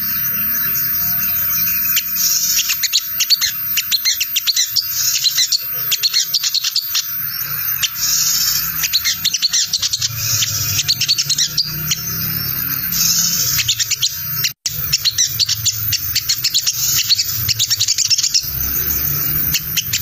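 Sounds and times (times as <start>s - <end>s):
sunbird chattering call: 0.6s - 20.0s.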